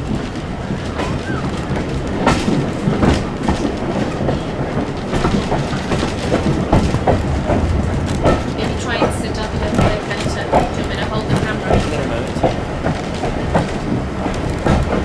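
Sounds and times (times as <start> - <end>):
railway carriage rumbling: 0.0 - 15.0
wheels clicking on rails: 0.0 - 15.0.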